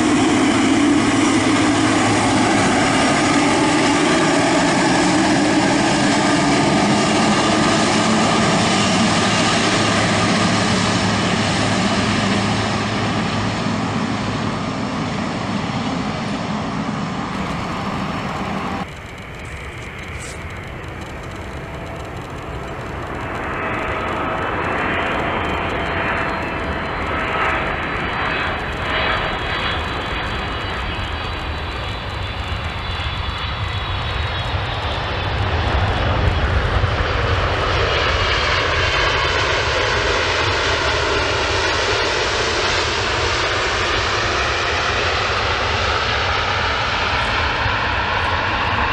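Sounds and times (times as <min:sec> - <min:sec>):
jet engines running: 0:00.0 - 0:48.9
jet with thin whine: 0:00.0 - 0:48.9.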